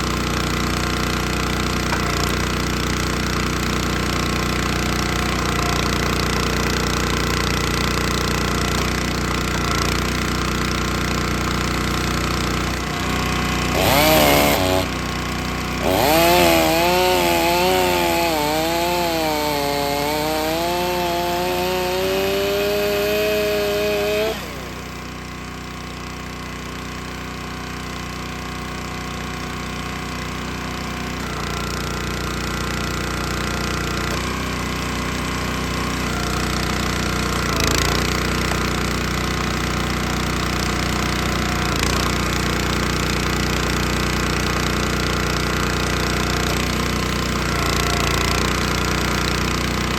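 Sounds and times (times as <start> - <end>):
chainsaw cutting under load: 0.0 - 49.9
low steady engine: 0.0 - 49.9.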